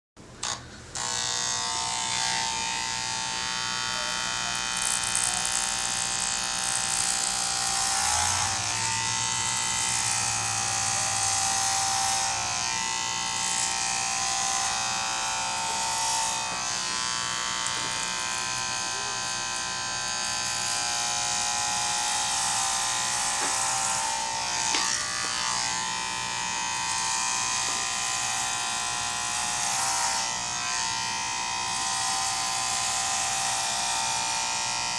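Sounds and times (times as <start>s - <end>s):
electric hair clippers buzzing: 0.4s - 34.9s.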